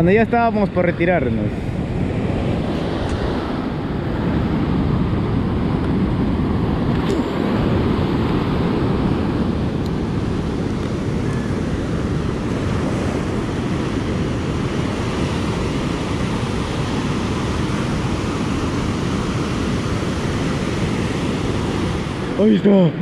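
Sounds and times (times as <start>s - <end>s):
ocean surf on beach: 0.0s - 23.0s
wind on microphone: 0.0s - 23.0s.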